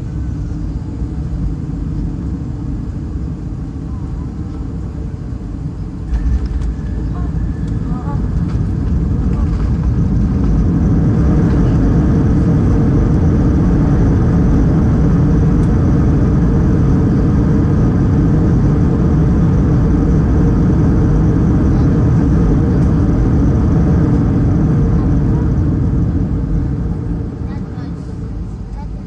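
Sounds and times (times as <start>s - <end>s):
aircraft cabin engine roar: 0.0s - 29.0s.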